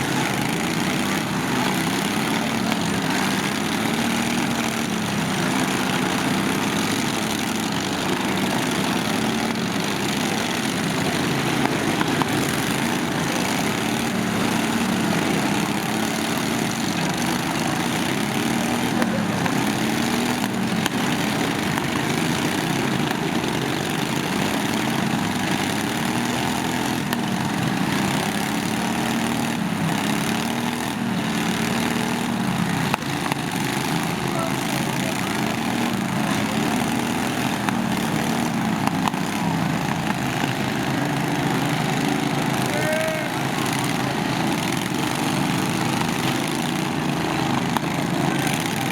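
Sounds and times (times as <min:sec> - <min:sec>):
lawn tractor engines revving: 0:00.0 - 0:48.9.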